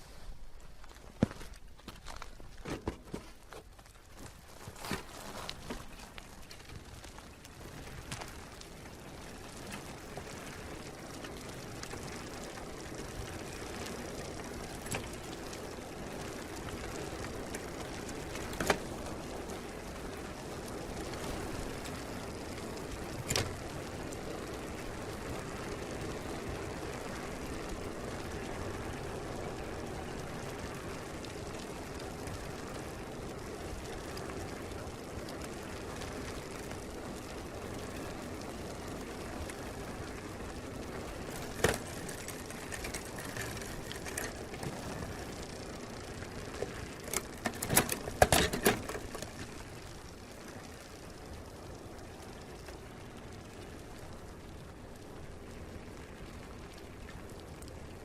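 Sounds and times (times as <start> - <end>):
bicycle tyres and drivetrain rolling: 0.0 - 58.0.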